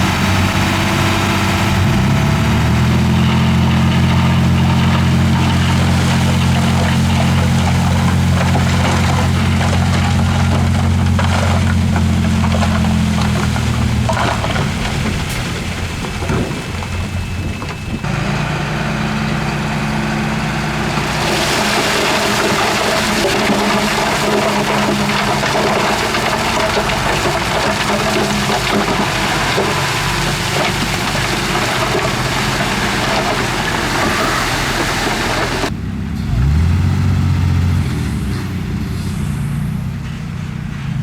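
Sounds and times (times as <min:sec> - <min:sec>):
diesel machinery engine: 0:00.0 - 0:41.0
rushing rumbling noise: 0:00.0 - 0:41.0.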